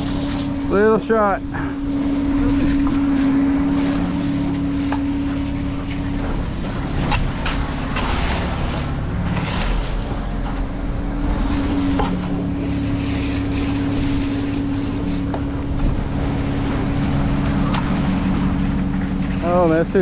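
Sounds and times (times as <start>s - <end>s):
heavy equipment engine running: 0.0s - 20.0s.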